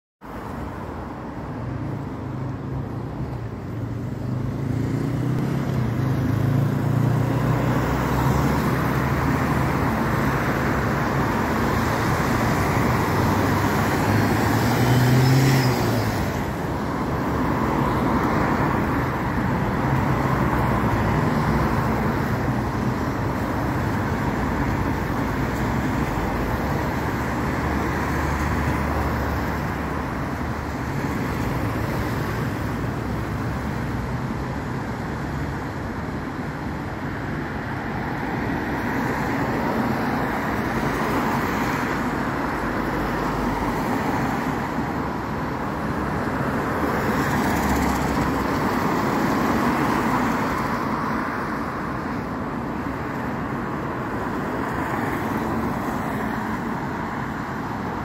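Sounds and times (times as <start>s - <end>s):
traffic passing on wet road: 0.2s - 58.0s.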